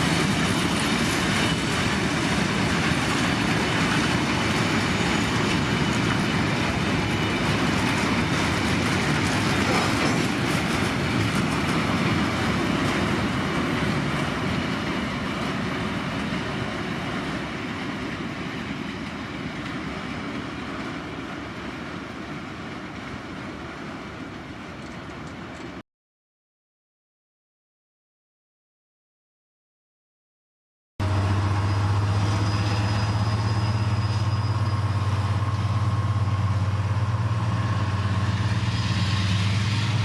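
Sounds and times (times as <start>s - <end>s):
freight train rolling on rails: 0.0s - 25.8s, 31.0s - 40.0s.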